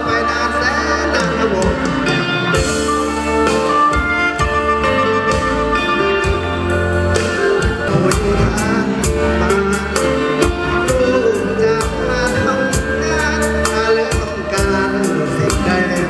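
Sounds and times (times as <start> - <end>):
instrumental music with steady beat: 0.0 - 16.0.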